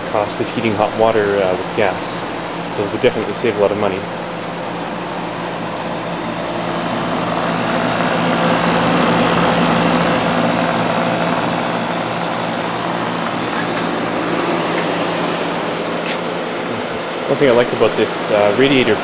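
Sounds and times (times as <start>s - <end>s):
compressor humming: 0.0s - 19.0s
fan air rush: 0.0s - 19.0s.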